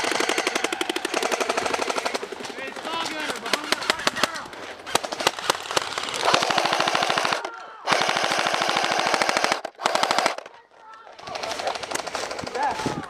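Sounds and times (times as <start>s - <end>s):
airsoft gun firing bursts: 0.0s - 10.5s.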